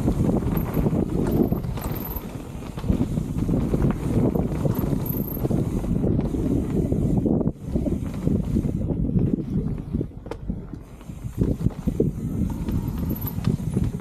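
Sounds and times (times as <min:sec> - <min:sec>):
mountain bike rattling: 0:00.0 - 0:14.0
wind rumbling on microphone: 0:00.0 - 0:14.0.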